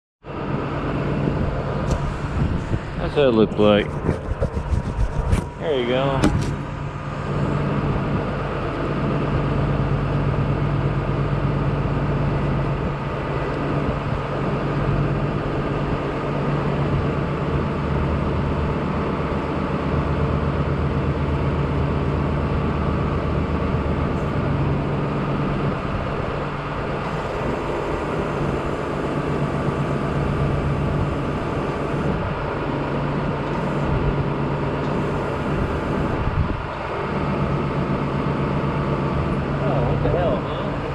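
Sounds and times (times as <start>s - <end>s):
large engine idling: 0.2s - 4.4s, 5.4s - 40.9s.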